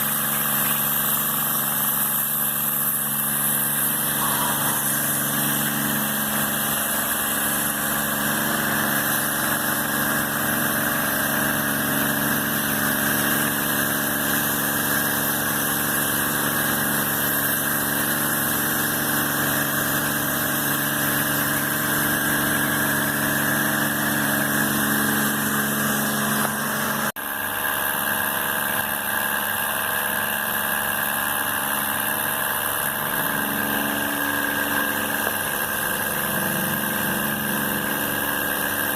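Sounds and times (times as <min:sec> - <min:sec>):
machine humming with hiss: 0:00.0 - 0:38.9.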